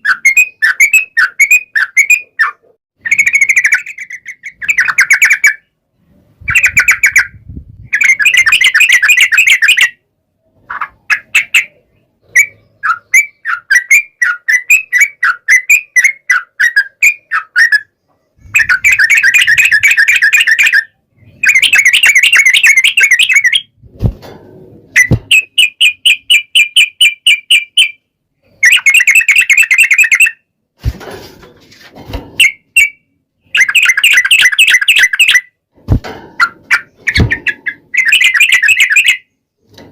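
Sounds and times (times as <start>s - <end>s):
bird singing rolling trills: 0.0s - 23.8s, 25.0s - 30.4s, 32.4s - 35.6s, 36.4s - 39.6s.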